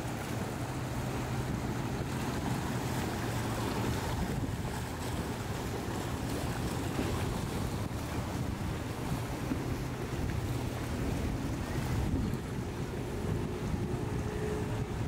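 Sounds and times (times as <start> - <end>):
boat engines droning: 0.0 - 15.0
wake and waves splashing: 0.0 - 15.0
wind buffeting microphone: 0.0 - 15.0.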